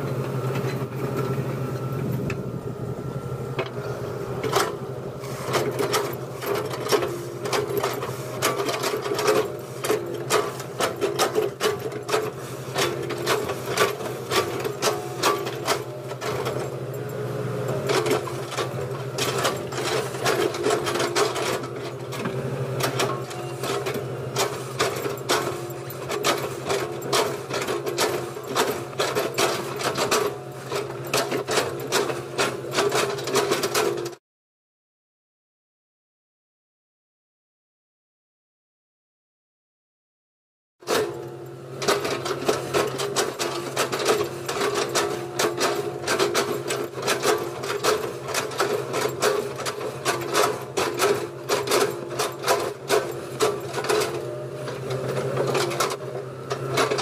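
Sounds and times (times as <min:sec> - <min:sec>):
excavator engine running: 0:00.0 - 0:34.2, 0:40.8 - 0:57.0.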